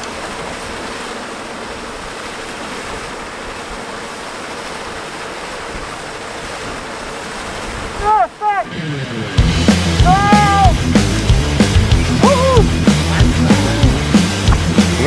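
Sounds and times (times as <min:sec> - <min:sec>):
waves at the seashore: 0:00.0 - 0:15.0.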